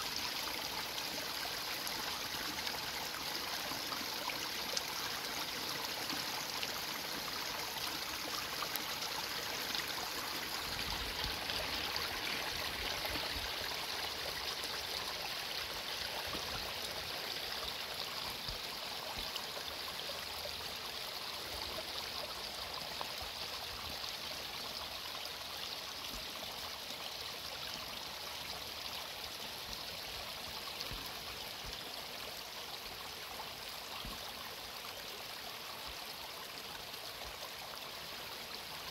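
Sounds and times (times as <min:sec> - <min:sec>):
creek running water: 0:00.0 - 0:38.9.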